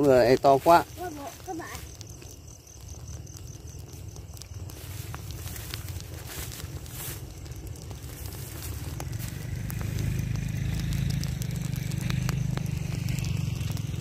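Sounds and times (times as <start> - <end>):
low fire rumble: 0.0 - 14.0
straw fire crackling and popping: 0.0 - 14.0.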